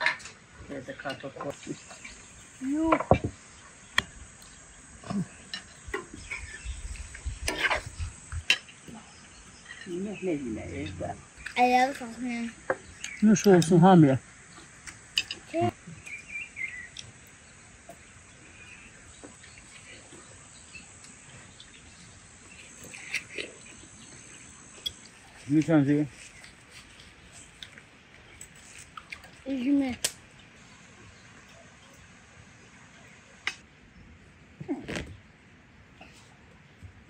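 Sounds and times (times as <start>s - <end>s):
crickets trilling: 0.0s - 33.5s
faint steady background noise: 0.0s - 37.0s.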